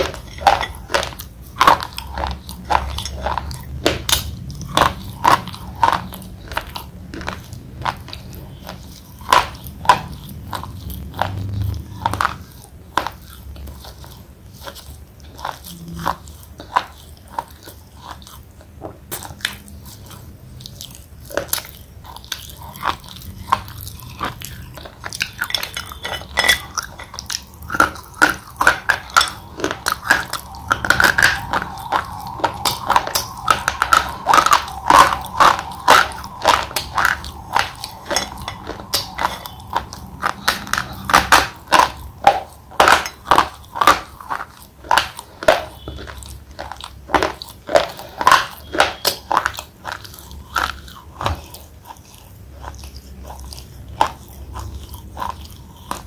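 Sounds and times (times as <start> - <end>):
crunching and chewing slate pencils: 0.0 - 56.0.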